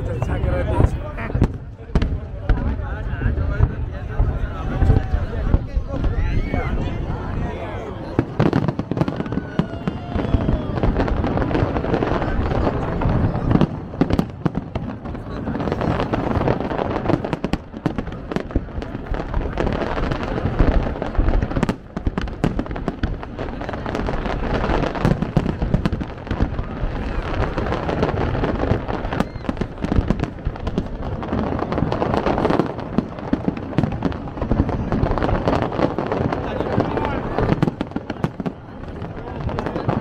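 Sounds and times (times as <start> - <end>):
crowd voices: 0.0 - 40.0
fireworks bangs and crackles: 0.0 - 40.0.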